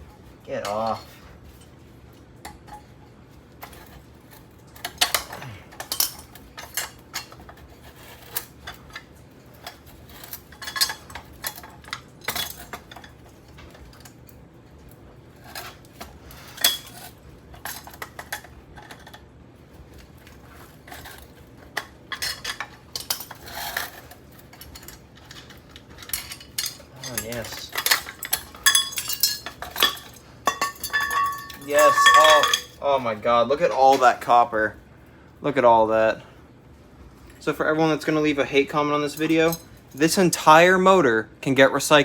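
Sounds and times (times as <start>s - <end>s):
metal fan motor parts clanking: 0.0s - 34.8s, 37.4s - 41.0s.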